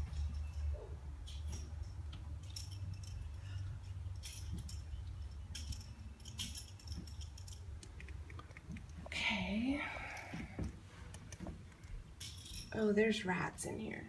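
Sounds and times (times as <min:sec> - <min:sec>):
handling rustles and clicks: 0:00.0 - 0:09.2, 0:10.0 - 0:12.8
steady low hum: 0:00.0 - 0:14.0.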